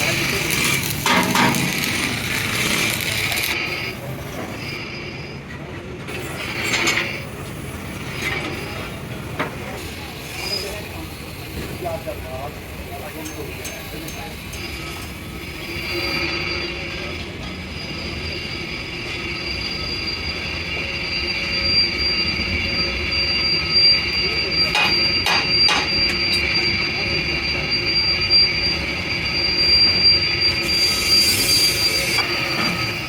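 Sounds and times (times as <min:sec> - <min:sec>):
metalworking machine squealing: 0:00.0 - 0:33.0.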